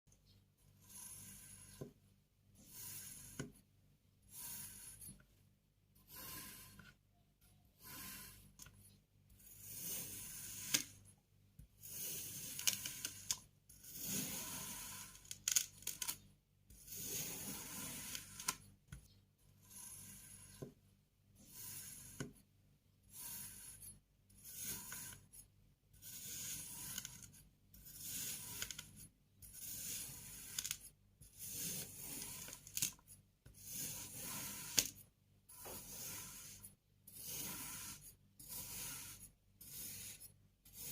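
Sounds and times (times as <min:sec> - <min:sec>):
knife cutting kinetic sand: 0:00.2 - 0:05.3, 0:05.9 - 0:40.9.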